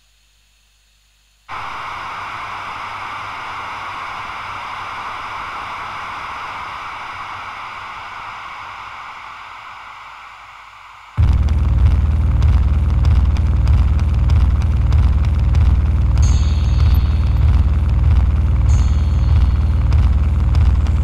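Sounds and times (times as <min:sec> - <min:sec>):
static-like noise hiss: 0:00.0 - 0:21.0.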